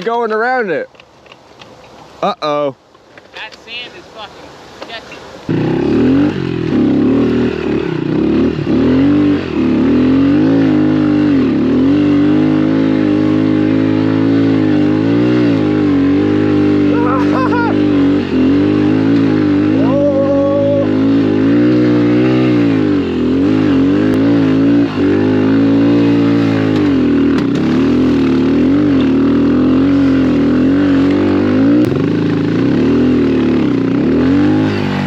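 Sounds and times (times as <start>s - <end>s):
pit bike engine revving: 5.4s - 35.0s.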